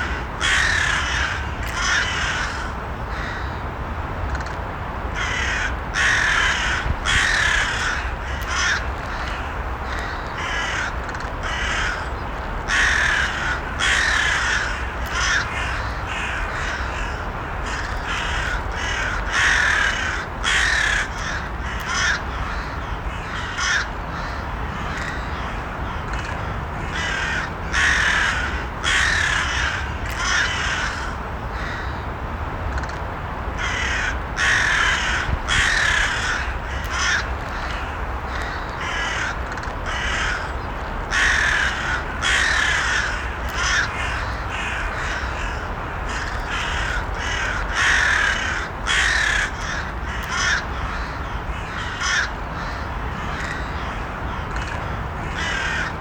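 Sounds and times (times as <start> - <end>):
crows cawing: 0.0 - 3.6, 5.2 - 32.0, 33.6 - 56.0.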